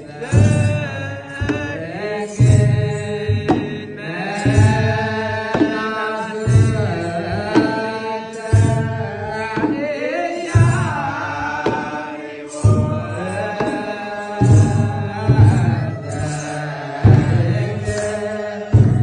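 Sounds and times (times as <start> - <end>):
men chanting together: 0.0 - 19.0
drum struck in slow beat: 0.2 - 19.0.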